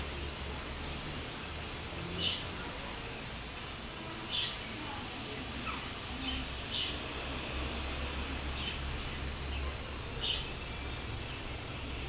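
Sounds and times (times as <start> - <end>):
faint outdoor background noise: 0.0 - 12.0
steady low hum: 0.0 - 12.0
small bird chirping: 0.8 - 3.4, 4.1 - 12.0.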